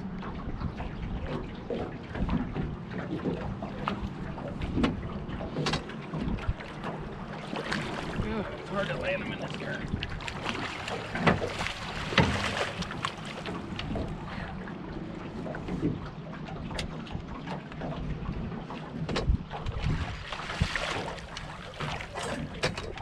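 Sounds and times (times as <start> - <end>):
wind buffeting microphone: 0.0 - 14.7, 18.0 - 23.0
knocks and clicks from boat: 0.0 - 23.0.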